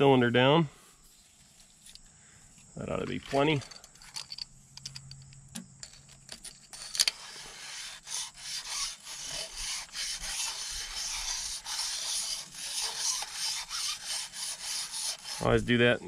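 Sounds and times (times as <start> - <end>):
cylinder hone scraping metal: 3.0 - 16.0.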